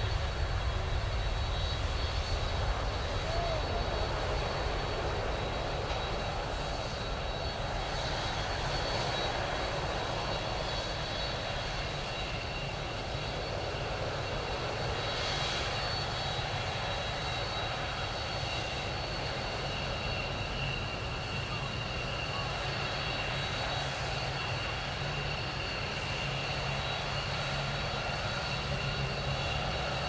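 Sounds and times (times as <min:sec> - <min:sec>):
jet engines at take-off power: 0:00.0 - 0:30.0.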